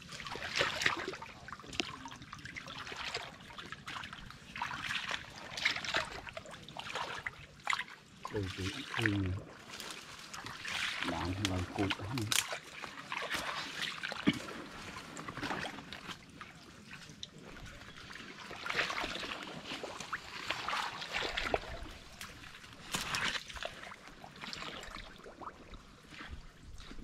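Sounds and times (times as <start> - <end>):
water sloshing and splashing: 0.0 - 27.0.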